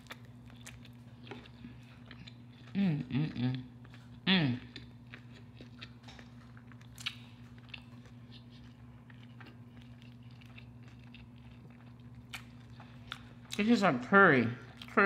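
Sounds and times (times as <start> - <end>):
person chewing food: 0.0 - 13.6, 14.6 - 15.0
steady low hum: 0.0 - 15.0.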